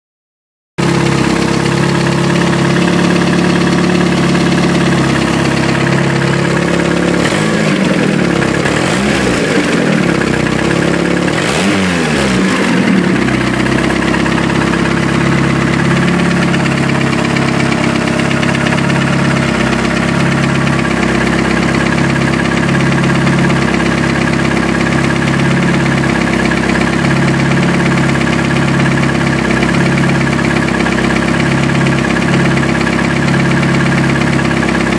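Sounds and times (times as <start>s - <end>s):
car engine idling: 0.8s - 34.9s.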